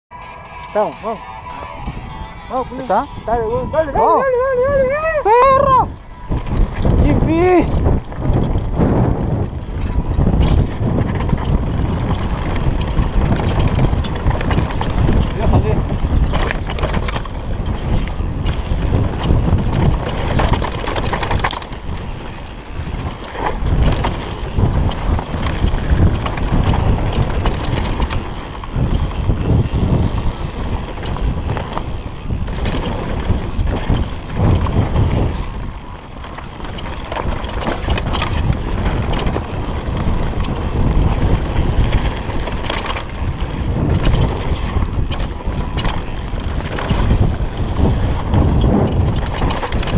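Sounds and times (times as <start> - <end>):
bike tyres on dirt: 0.2 - 49.9
wind rumble on microphone: 0.7 - 49.9
bike knocks and rattles: 5.9 - 49.9.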